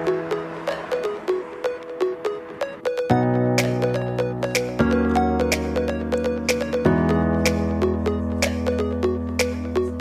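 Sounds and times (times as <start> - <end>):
electronic music with sharp beat: 0.0 - 10.0.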